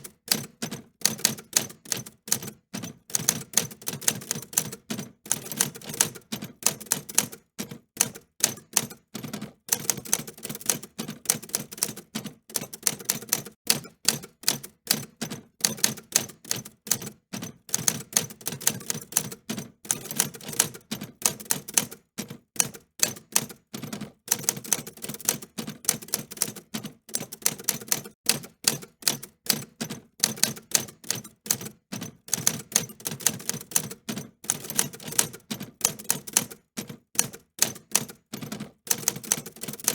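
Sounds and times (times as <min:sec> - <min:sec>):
typewriter keys clicking: 0:00.0 - 0:23.6, 0:24.3 - 0:39.9.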